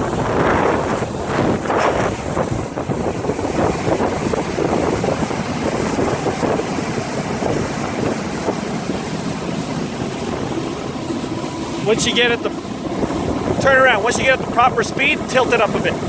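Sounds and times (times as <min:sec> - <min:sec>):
outboard motor running: 0:00.0 - 0:16.0
water against hull: 0:00.0 - 0:16.0
wind buffeting microphone: 0:00.0 - 0:16.0.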